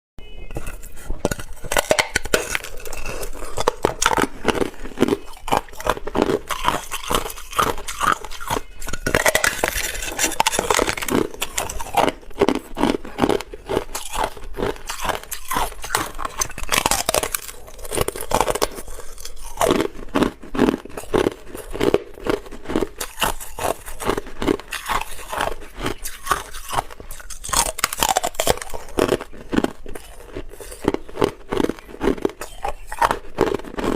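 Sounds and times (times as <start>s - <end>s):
ice crunching while chewed: 0.5s - 33.9s.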